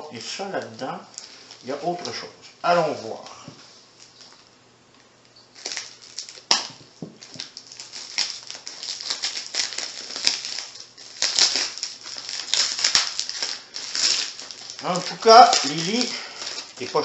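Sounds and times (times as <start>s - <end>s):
packing tape and plastic crinkling: 0.2s - 17.0s.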